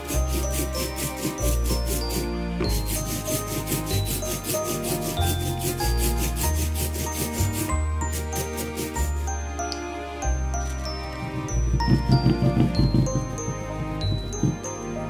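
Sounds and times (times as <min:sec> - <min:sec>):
ink roller rubbing through ink: 0:00.0 - 0:09.3, 0:11.3 - 0:14.6
christmas music with bells: 0:00.0 - 0:15.0.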